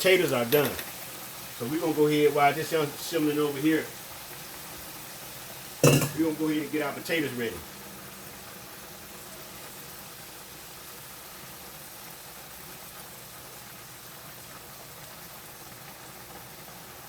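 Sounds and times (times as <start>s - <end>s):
steak sizzling in a pan: 0.0s - 17.0s.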